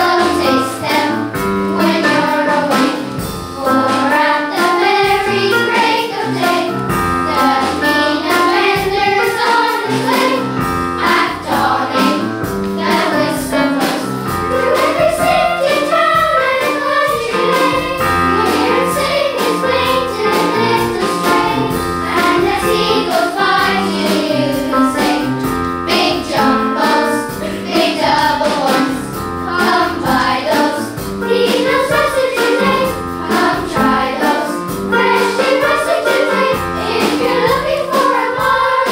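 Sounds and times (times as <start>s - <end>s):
children's choir singing: 0.0s - 38.9s.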